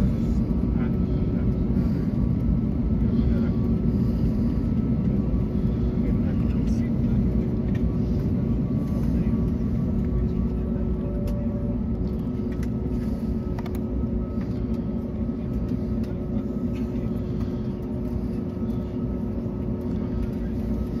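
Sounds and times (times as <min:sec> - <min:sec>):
faint whine: 0:00.0 - 0:21.0
jet engines at low power: 0:00.0 - 0:21.0
steady hum: 0:00.0 - 0:21.0
light clicks through airframe: 0:00.4 - 0:21.0.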